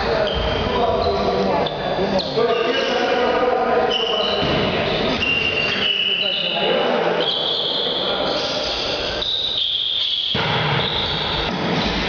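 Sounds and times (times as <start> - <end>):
shoe squeals: 0.0 - 3.2, 3.8 - 11.5
echoing sports hall noise: 0.0 - 12.0.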